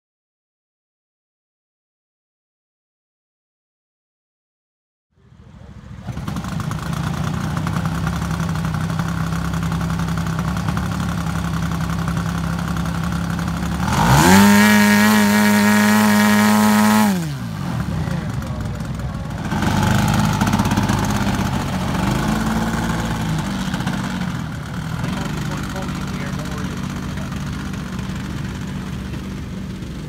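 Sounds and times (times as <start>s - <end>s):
model plane engine and propeller: 5.2s - 30.0s.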